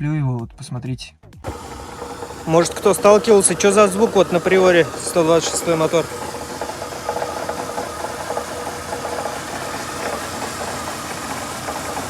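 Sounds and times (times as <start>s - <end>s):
car engine running: 1.4s - 12.0s
fast metallic knocking: 1.4s - 12.0s.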